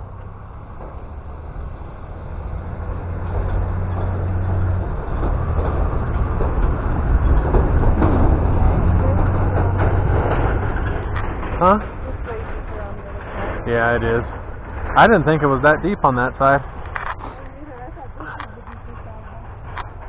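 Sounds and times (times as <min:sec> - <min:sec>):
off-road vehicle engine: 0:00.0 - 0:20.0.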